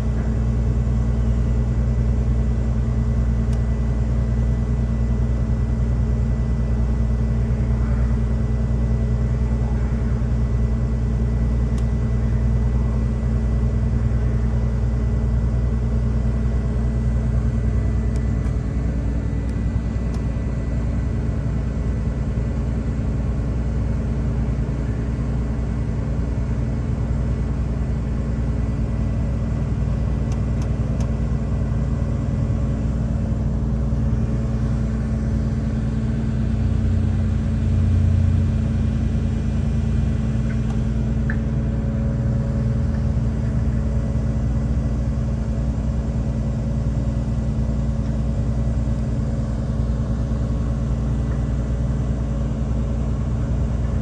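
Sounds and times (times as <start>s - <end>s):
diesel engines humming: 0.0s - 46.6s.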